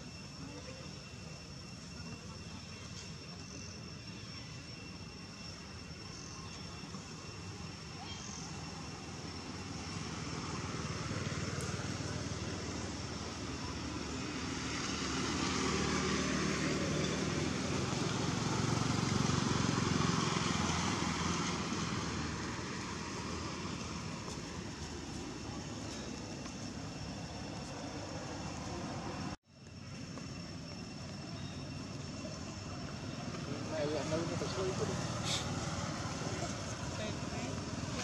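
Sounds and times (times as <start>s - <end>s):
engine droning past: 0.6s - 38.0s.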